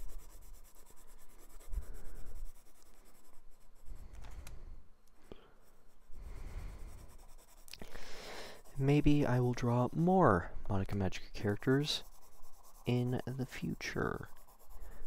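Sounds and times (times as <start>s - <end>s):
pencil scratching on paper: 0.0s - 4.2s, 5.5s - 15.0s.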